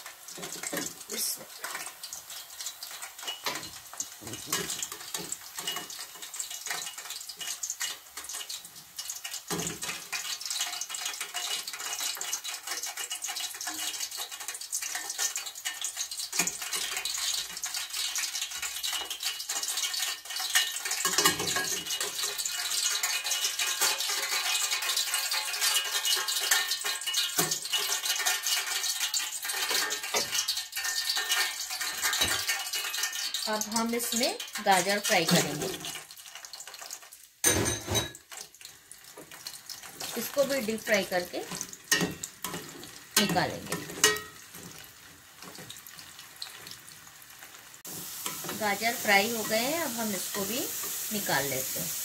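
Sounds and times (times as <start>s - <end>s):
hot oil sizzling and crackling: 0.0s - 52.0s.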